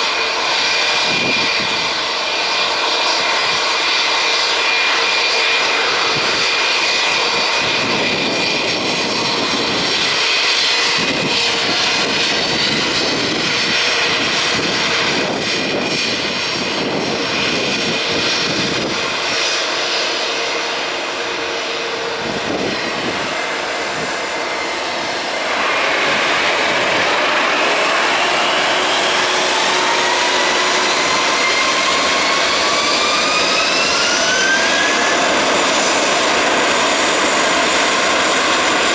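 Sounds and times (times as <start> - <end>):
engine whines rising in pitch: 0.0 - 38.9
jet engines rushing and whining: 0.0 - 38.9.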